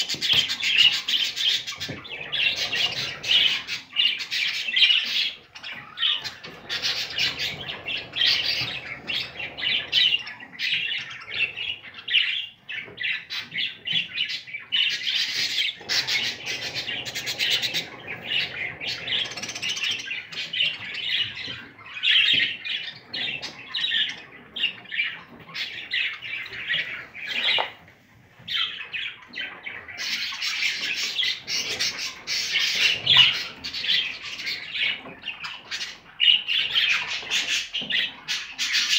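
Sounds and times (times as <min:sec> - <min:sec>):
budgerigars chattering: 0:00.0 - 0:27.8, 0:28.5 - 0:38.9.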